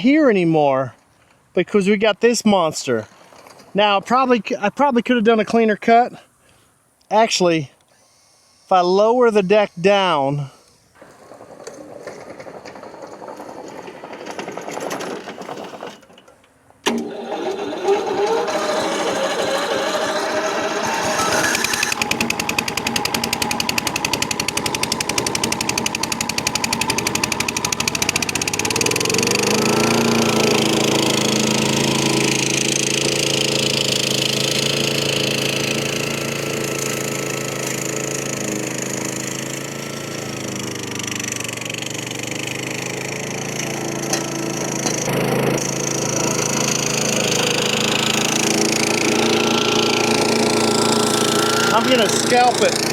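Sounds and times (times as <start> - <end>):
mower engine running: 9.3 - 52.9.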